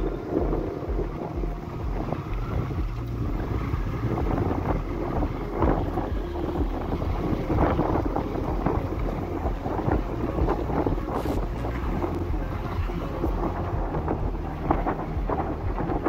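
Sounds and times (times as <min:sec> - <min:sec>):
motorcycle engine droning: 0:00.0 - 0:16.0
wind buffeting microphone: 0:00.0 - 0:16.0.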